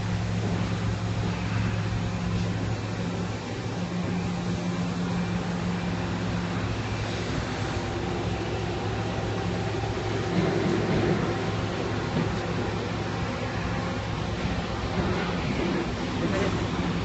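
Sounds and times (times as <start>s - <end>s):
machinery hum and whir: 0.0s - 17.0s.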